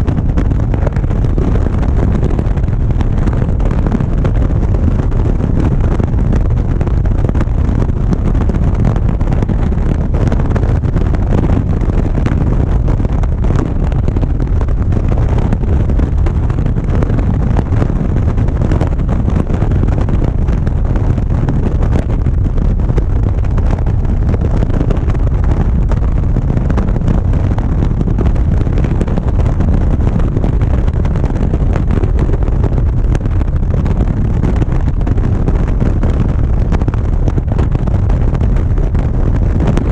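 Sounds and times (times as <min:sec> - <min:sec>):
wind roar on camera: 0:00.0 - 0:39.9.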